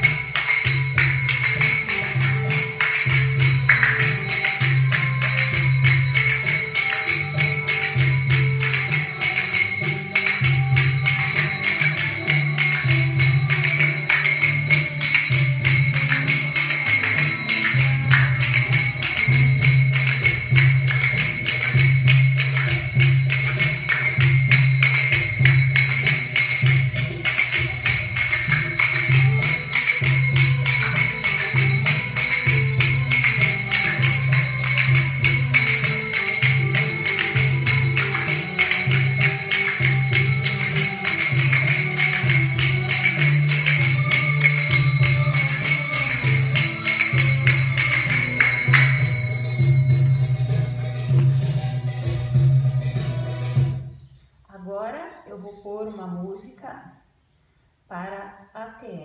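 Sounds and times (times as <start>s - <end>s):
finger cymbals ringing: 0.0s - 51.5s.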